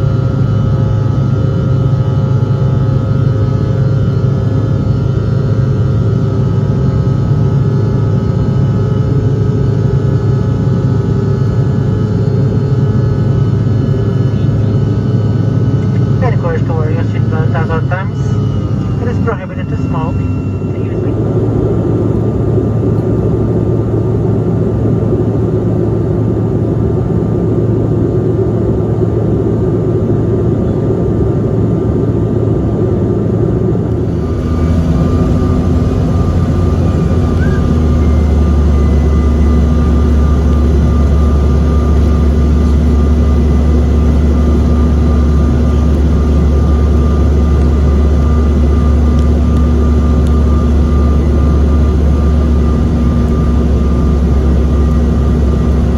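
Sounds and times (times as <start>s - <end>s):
airliner engines droning: 0.0s - 55.9s
deep steady hum: 0.0s - 55.9s.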